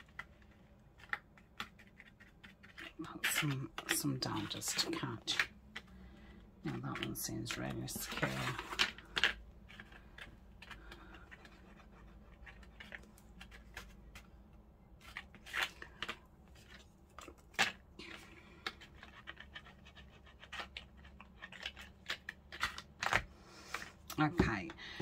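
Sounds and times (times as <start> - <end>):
paper and card rustling: 0.0 - 25.0.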